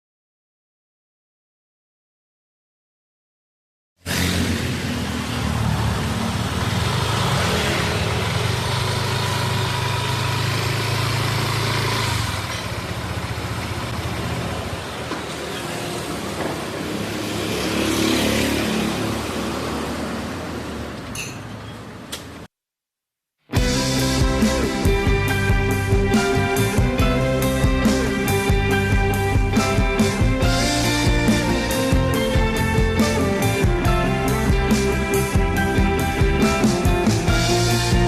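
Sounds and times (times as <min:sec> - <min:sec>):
motor vehicle road noise: 0:04.0 - 0:22.5, 0:23.6 - 0:38.0.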